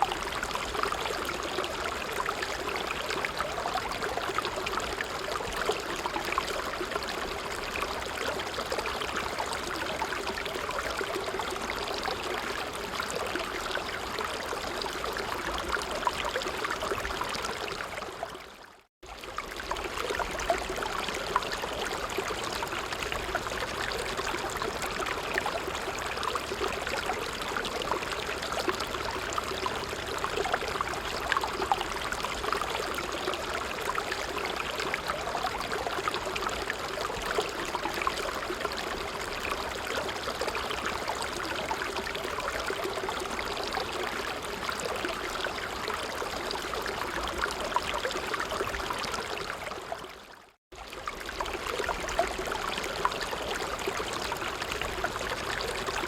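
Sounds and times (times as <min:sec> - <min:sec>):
creek water babbling: 0:00.0 - 0:56.0.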